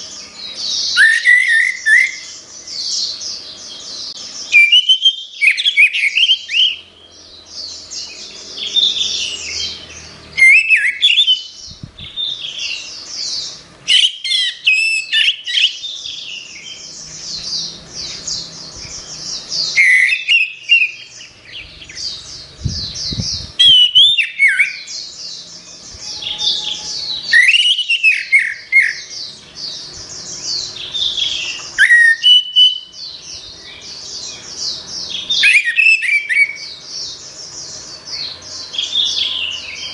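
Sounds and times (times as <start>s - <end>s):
thrush singing varied song: 0.0s - 39.9s.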